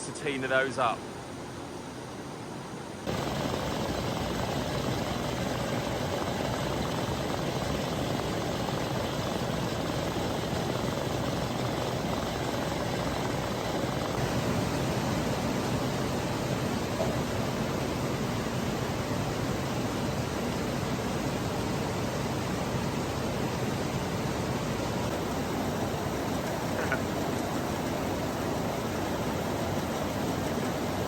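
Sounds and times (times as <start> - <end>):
broad rushing noise: 3.0 - 31.0
farm machinery engine drone: 3.1 - 31.0.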